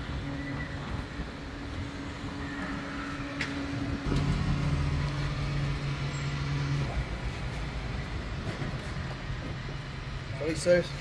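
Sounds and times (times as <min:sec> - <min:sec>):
low hum: 0:00.0 - 0:10.2
vehicle engine running: 0:01.5 - 0:11.0.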